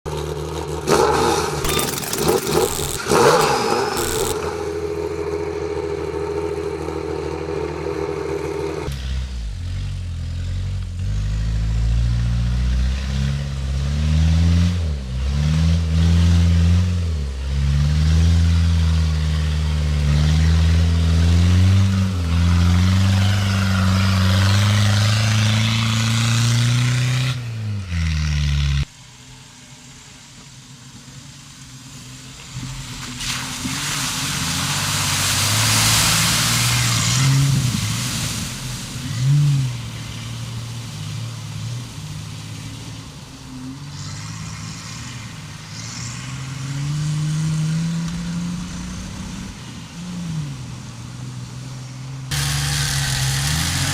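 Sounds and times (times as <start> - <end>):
off-road engine revving: 0.1 - 28.9, 33.6 - 53.9.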